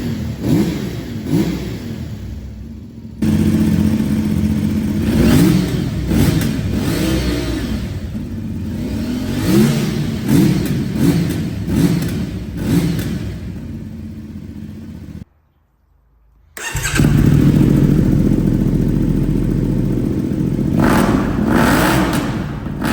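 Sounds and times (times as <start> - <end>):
motorcycle engine revving: 0.0 - 15.2, 16.6 - 22.9.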